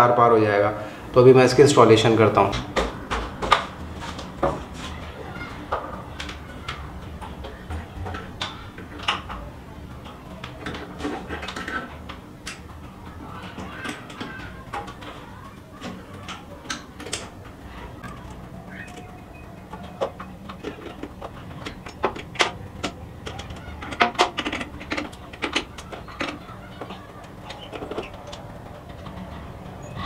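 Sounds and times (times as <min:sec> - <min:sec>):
metal clicks and knocks: 0:05.7 - 0:30.0.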